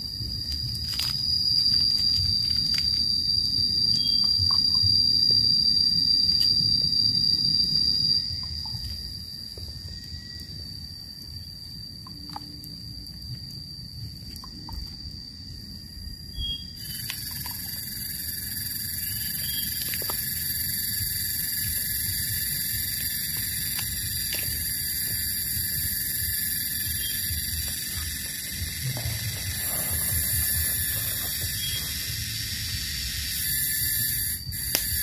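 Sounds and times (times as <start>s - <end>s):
dense insect chorus: 0.0s - 35.0s
insects buzzing high whine: 0.0s - 35.0s.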